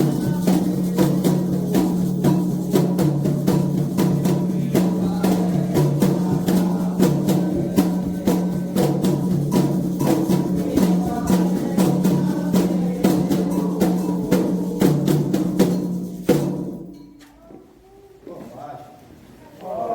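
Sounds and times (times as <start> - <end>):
hand drums driving rhythm: 0.0 - 17.0.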